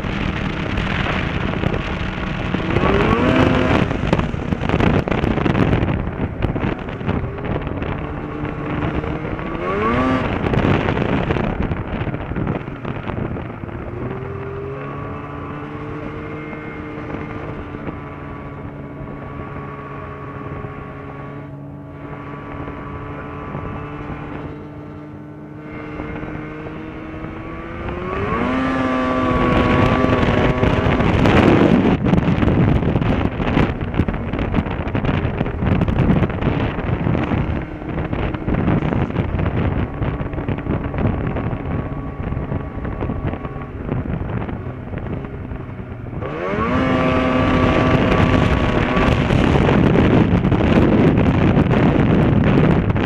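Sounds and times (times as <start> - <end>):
snowmobile engine accelerating: 0.0 - 53.0
snowmobile track noise: 0.0 - 53.0
wind buffeting microphone: 0.0 - 53.0.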